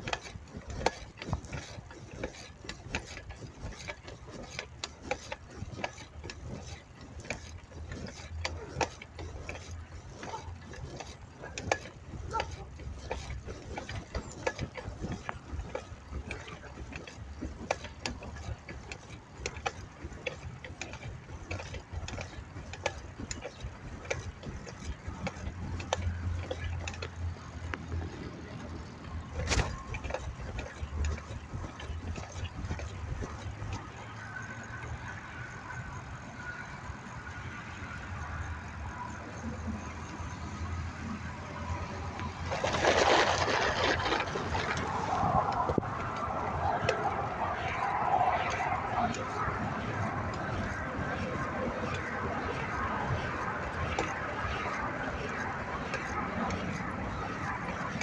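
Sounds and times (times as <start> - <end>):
bicycle clicks and rattles: 0.0 - 58.0.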